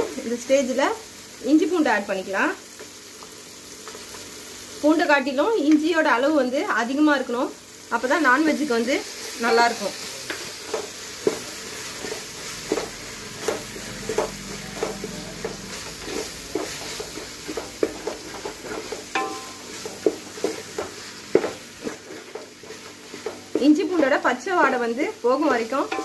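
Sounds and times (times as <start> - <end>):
frying sizzle: 0.0 - 26.0.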